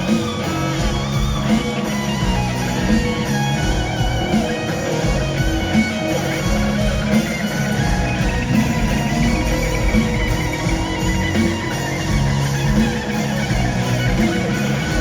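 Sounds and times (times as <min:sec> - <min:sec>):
electric guitar solo: 0:00.0 - 0:15.0
live rock music: 0:00.0 - 0:15.0.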